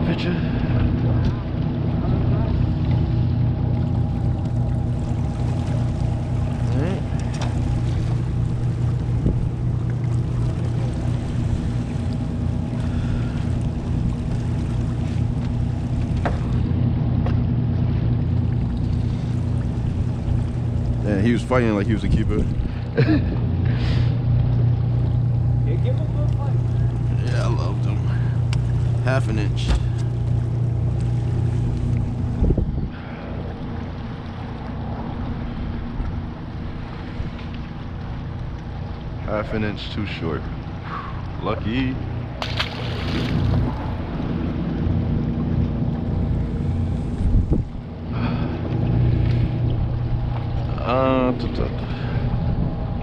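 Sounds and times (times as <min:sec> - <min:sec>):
boat motor humming: 0:00.0 - 0:53.0
wind and water noise: 0:00.0 - 0:53.0.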